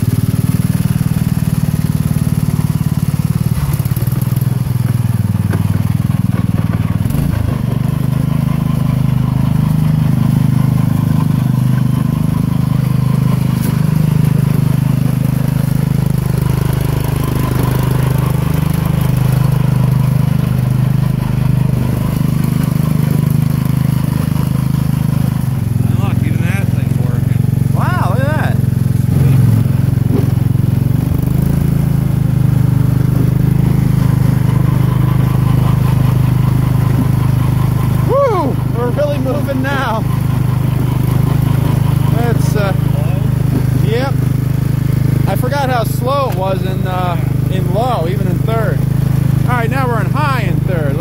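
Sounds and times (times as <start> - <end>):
lawn tractor engine running: 0.0 - 51.0.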